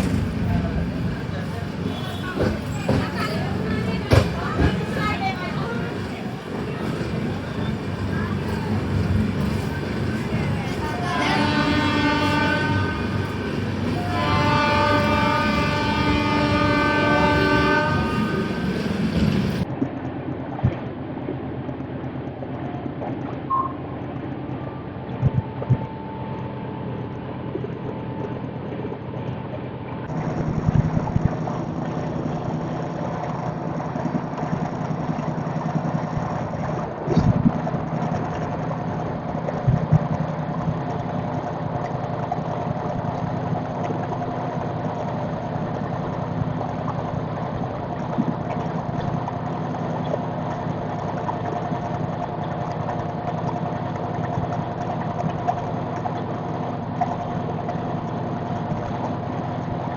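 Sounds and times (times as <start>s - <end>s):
train hum and rumble: 0.0s - 59.9s.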